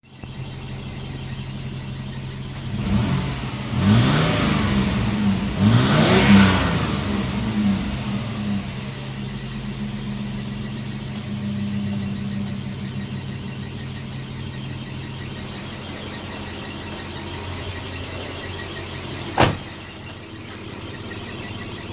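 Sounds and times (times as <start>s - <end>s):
engine idling and revving: 0.0s - 21.9s.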